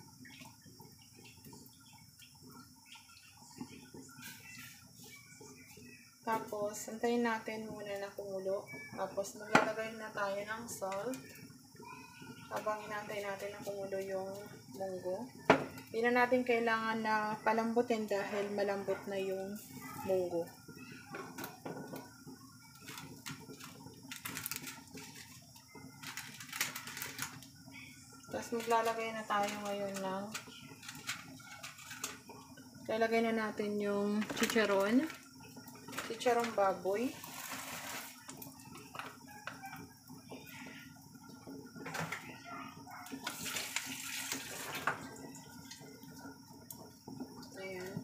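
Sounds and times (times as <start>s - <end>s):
soup bubbling in pot: 0.0s - 48.0s.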